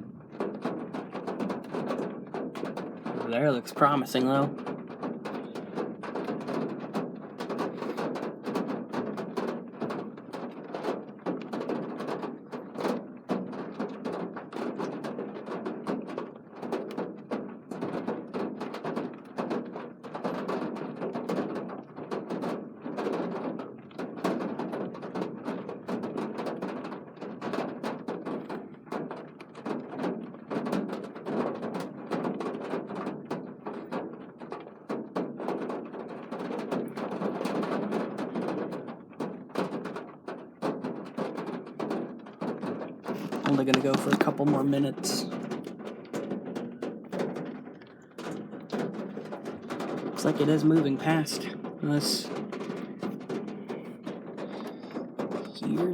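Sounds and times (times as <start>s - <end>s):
rain on a hard surface: 0.0s - 43.7s, 44.3s - 55.9s.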